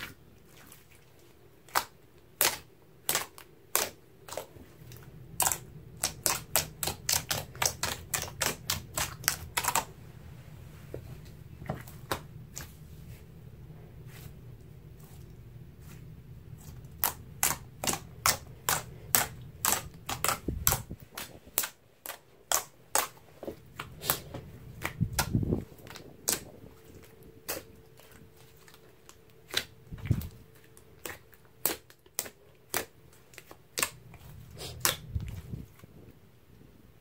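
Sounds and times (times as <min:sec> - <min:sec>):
slime squishing: 0:00.0 - 0:36.2.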